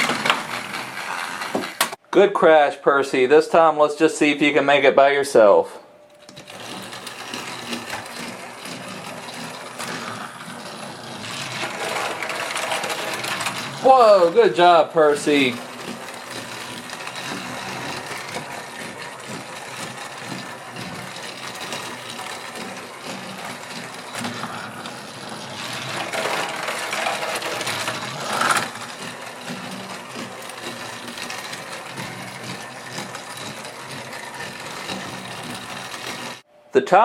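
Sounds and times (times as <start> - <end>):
toy train motor whirring: 0.0 - 2.0, 6.1 - 36.5.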